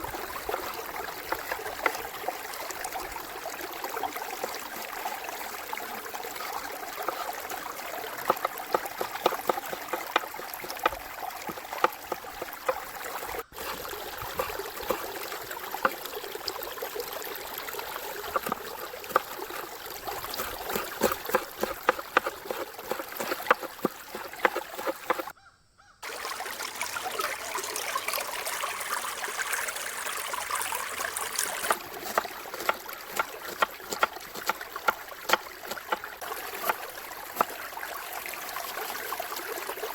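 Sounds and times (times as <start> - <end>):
river water flowing: 0.0 - 25.3, 26.0 - 39.9.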